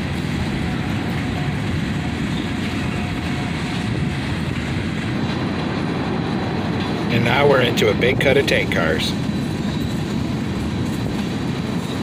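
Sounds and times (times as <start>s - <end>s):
steel wheels rumbling on rails: 0.0s - 12.0s.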